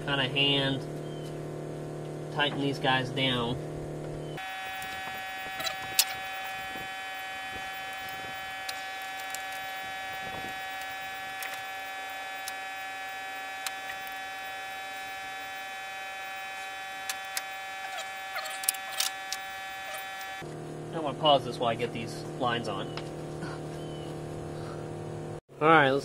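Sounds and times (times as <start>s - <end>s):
electrical buzzing hum: 0.0s - 26.0s.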